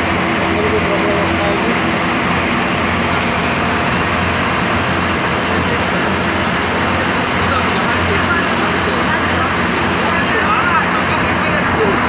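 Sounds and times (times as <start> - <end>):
boat engine running: 0.0 - 12.0
rush of wind and water: 0.0 - 12.0.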